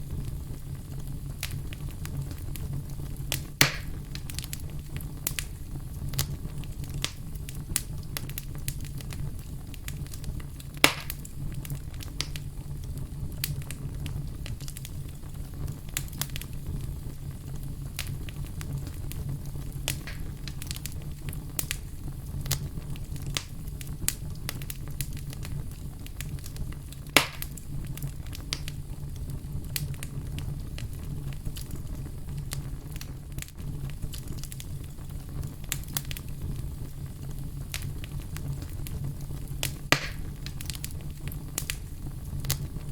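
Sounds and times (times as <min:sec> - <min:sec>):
fire popping: 0:00.0 - 0:42.9
wood fire crackling: 0:00.0 - 0:42.9.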